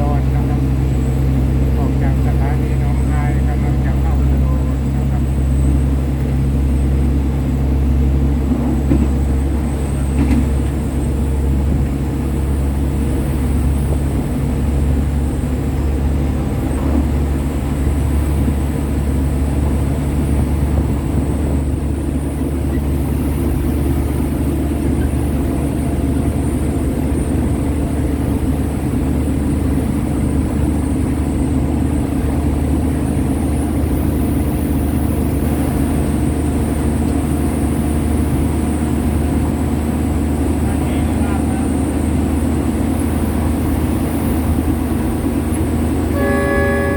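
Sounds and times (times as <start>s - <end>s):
diesel train engine rumbling: 0.0s - 46.9s.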